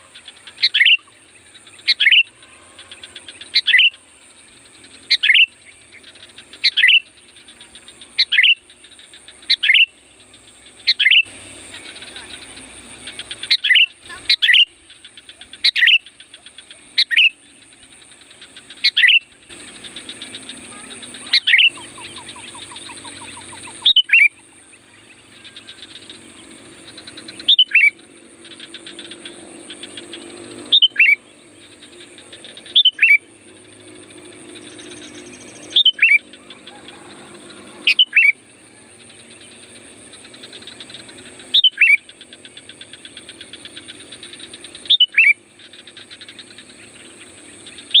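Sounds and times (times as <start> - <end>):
soft fast bird chattering: 0.0 - 48.0
steady high hiss: 0.0 - 48.0.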